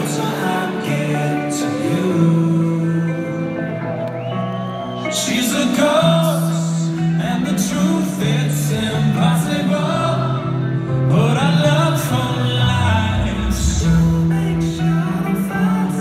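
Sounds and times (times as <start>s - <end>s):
man singing: 0.0s - 4.1s, 4.9s - 16.0s
rock band playing: 0.0s - 16.0s.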